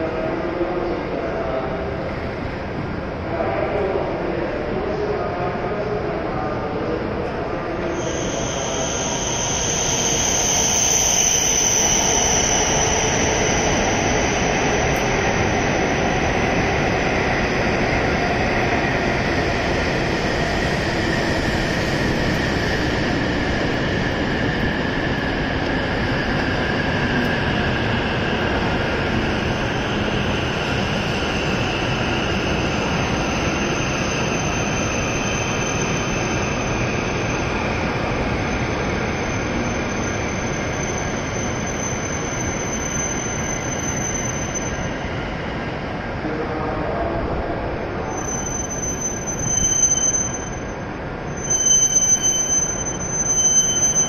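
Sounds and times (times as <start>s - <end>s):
train arriving with electric whine: 0.0s - 54.0s.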